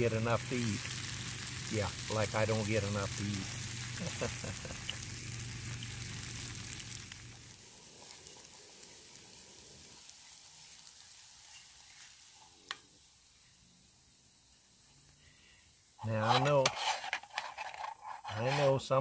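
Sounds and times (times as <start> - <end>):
tofu sizzling in oil: 0.0 - 16.1.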